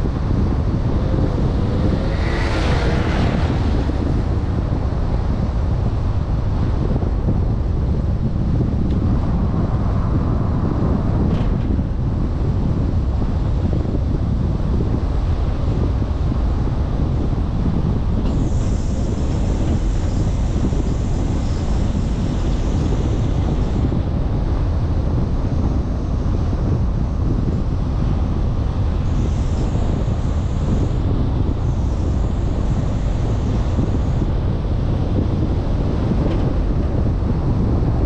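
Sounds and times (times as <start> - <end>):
road and wind noise rumble: 0.0 - 38.0.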